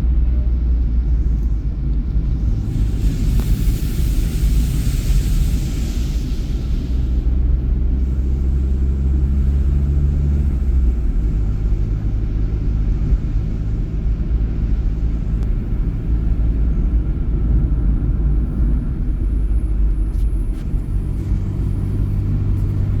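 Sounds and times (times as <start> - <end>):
road rumble: 0.0 - 23.0
vehicle engine running: 0.0 - 23.0.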